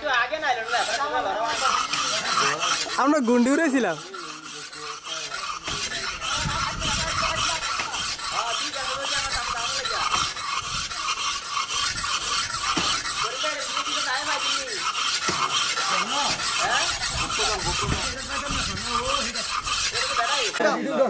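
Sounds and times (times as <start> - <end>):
high-pitched rasping hiss: 0.7 - 20.6.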